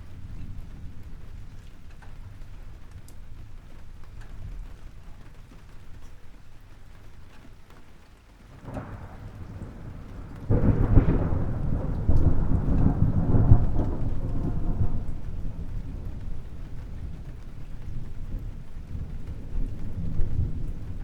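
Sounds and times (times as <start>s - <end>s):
deep thunder rumbling: 0.0s - 7.3s, 8.5s - 21.0s
steady rain: 0.0s - 21.0s.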